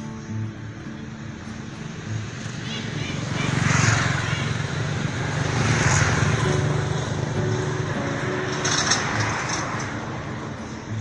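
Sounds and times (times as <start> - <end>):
passing motor vehicle rumble: 0.0 - 11.0.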